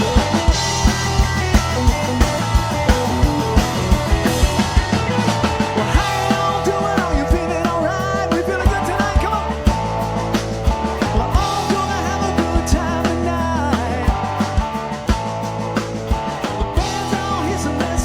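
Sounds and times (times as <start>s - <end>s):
live country band playing: 0.0s - 18.0s.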